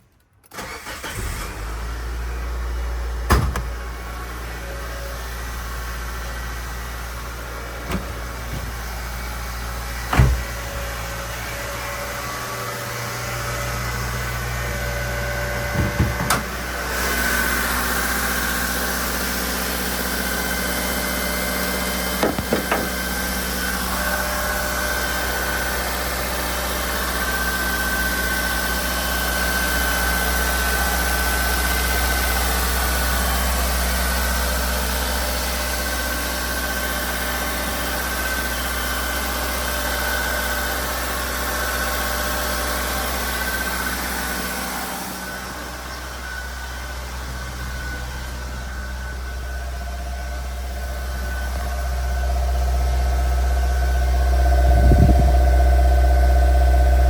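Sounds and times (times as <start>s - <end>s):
car engine idling: 0.6s - 57.0s.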